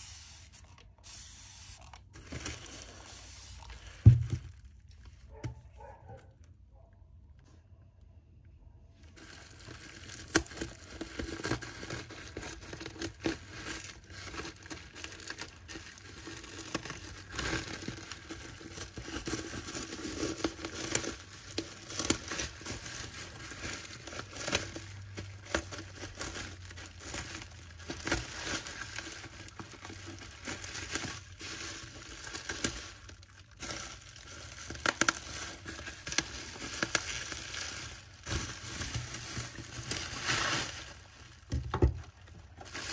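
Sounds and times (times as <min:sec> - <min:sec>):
bubble wrap crinkling: 0:00.0 - 0:06.6, 0:09.0 - 0:42.9.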